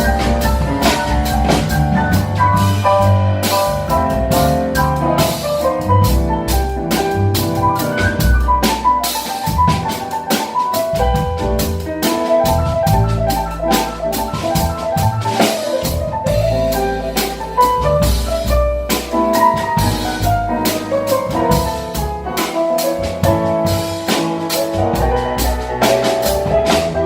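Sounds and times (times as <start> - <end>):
drum kit on cymbals and drums: 0.0 - 27.0
piano melody and chords: 0.0 - 27.0
walking bass: 0.0 - 27.0.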